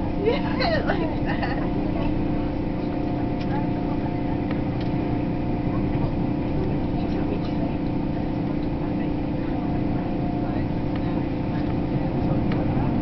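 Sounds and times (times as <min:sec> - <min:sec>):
electric hum: 0:00.0 - 0:13.0
train wheels rumbling on rails: 0:00.0 - 0:13.0.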